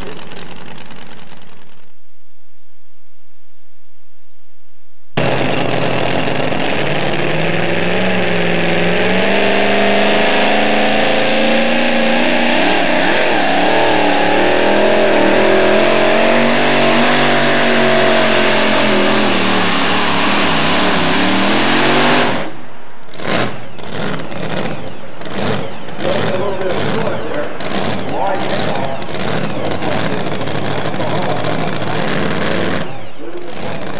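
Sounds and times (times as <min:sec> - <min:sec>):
truck engine at full throttle: 0:00.0 - 0:01.9, 0:05.2 - 0:33.9.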